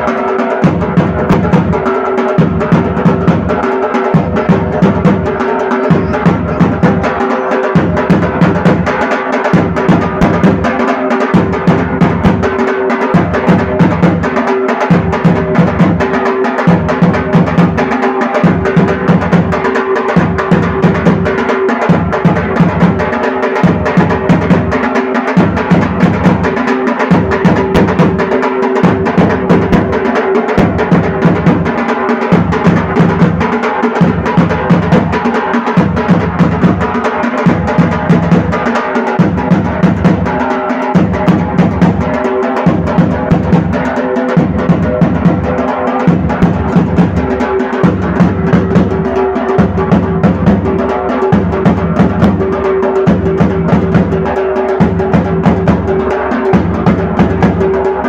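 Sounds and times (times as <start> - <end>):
drums beaten in fast rhythm: 0.0 - 58.0.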